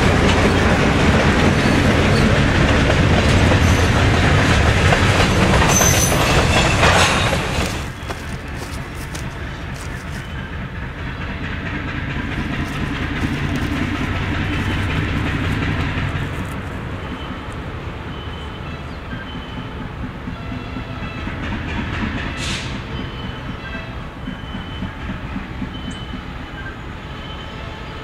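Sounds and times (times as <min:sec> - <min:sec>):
diesel locomotive engines rumbling: 0:00.0 - 0:28.0.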